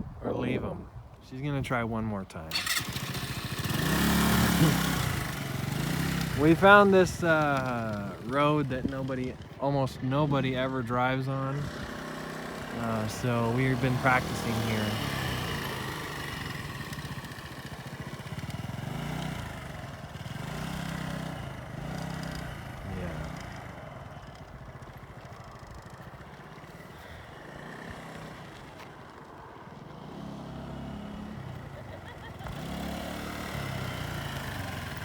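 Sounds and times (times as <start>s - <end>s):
motorcycle engine revving: 2.5s - 35.0s.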